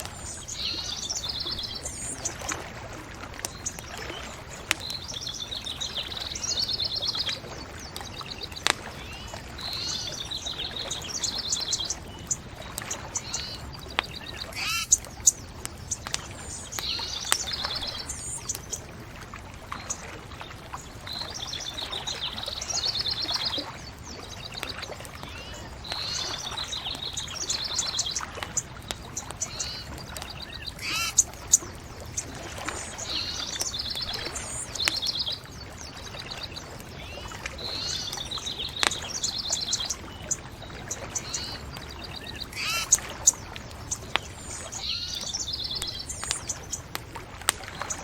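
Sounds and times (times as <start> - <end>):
bonfire crackling and popping: 0.0 - 21.4, 22.0 - 36.0, 36.6 - 40.6, 41.6 - 48.0
songbirds trilling: 0.0 - 48.0.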